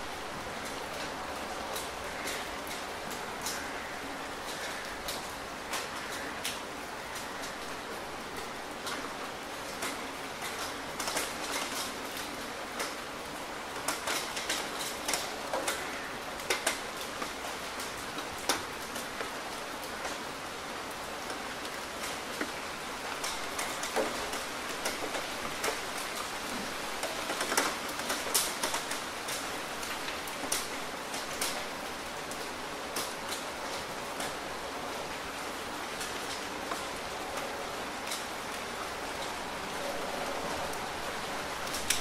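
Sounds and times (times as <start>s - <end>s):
steady rain hiss: 0.0s - 42.0s
raindrops tapping close by: 0.1s - 42.0s.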